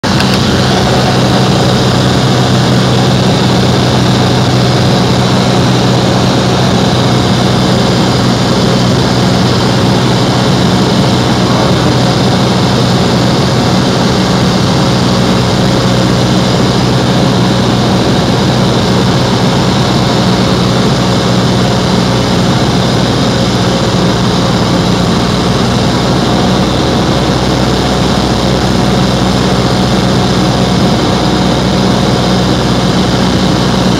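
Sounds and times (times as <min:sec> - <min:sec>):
airplane engine droning in cabin: 0:00.0 - 0:33.9.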